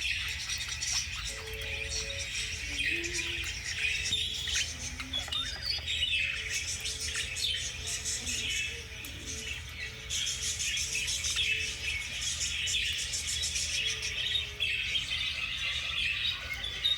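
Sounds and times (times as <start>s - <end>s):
budgerigars chattering: 0.0s - 16.9s.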